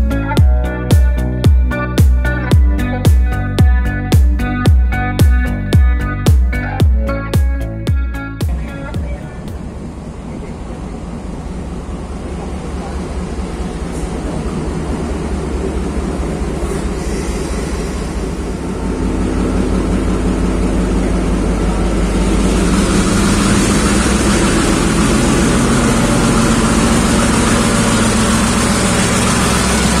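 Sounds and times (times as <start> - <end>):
diesel locomotive engine running: 0.0 - 30.0.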